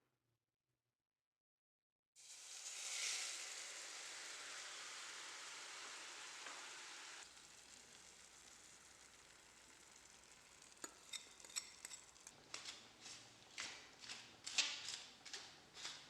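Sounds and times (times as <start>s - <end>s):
food sizzling in a pan: 2.2s - 16.0s.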